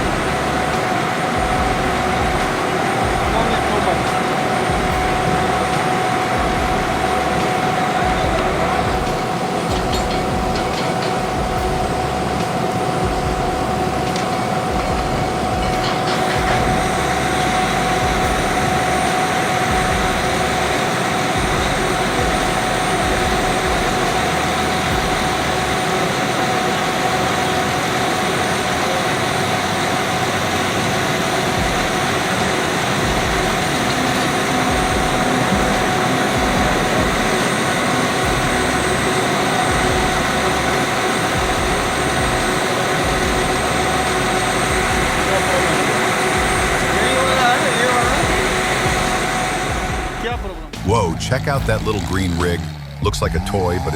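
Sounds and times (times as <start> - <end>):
high hum: 0.0 - 53.9
machine noise: 0.0 - 53.9.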